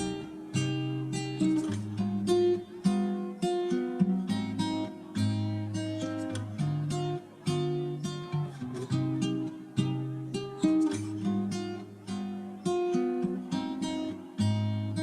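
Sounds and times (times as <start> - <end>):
acoustic guitar plucking and strumming: 0.0 - 15.0.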